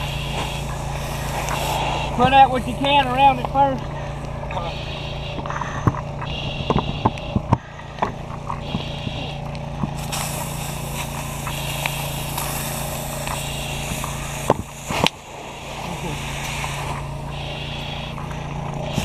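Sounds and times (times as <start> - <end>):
fire hose spraying water: 0.0 - 5.5, 8.1 - 19.0
engine humming: 0.0 - 19.0.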